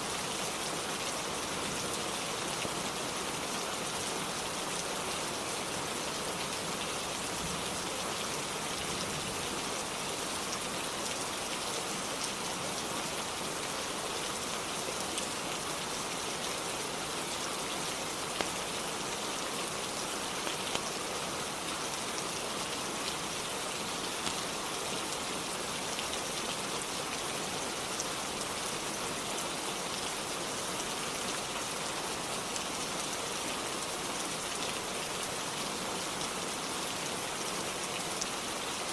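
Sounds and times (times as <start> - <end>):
rain falling on a roof: 0.0 - 38.9.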